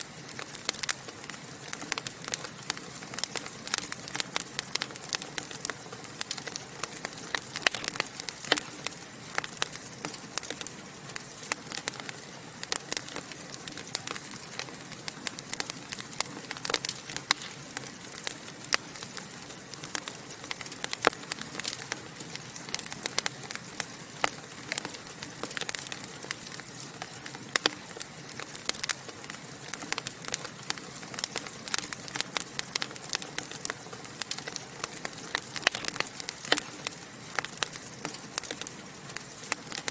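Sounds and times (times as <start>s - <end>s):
fireplace fire crackling and popping: 0.0s - 39.9s
soft steady hiss: 0.0s - 39.9s.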